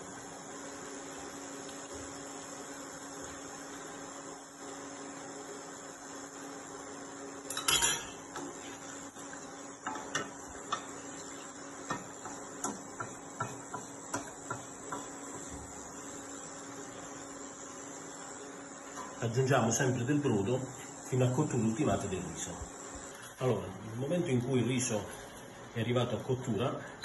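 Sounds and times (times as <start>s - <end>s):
electrical hum with high whine: 0.0s - 27.0s.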